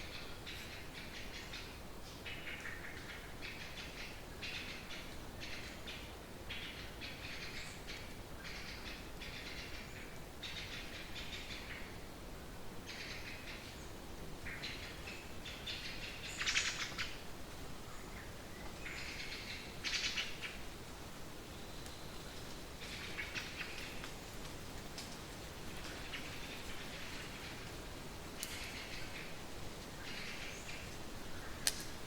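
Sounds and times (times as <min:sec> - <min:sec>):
crackly rustling in gusts: 0:00.0 - 0:32.0.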